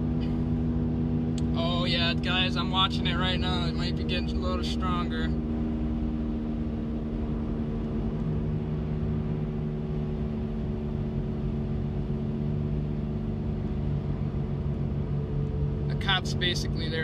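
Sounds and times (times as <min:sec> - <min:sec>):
car engine and road drone: 0:00.0 - 0:17.0
low hum: 0:00.0 - 0:17.0.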